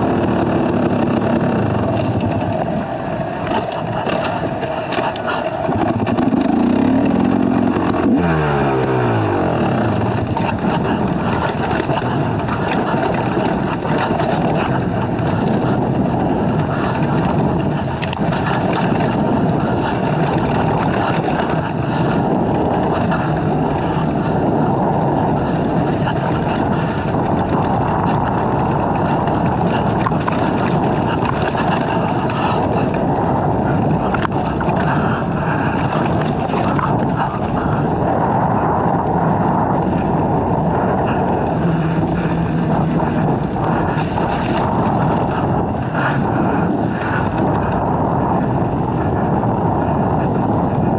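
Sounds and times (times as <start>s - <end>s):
dirt bike engine running: 0.0s - 50.9s
wind buffeting microphone: 0.0s - 50.9s.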